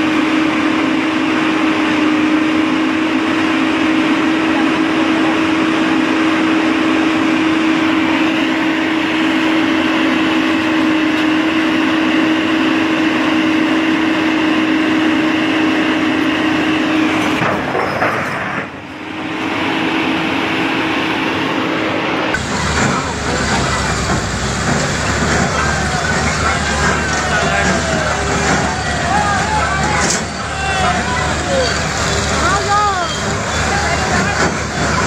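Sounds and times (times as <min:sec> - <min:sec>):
heavy vehicle running: 0:00.0 - 0:35.0.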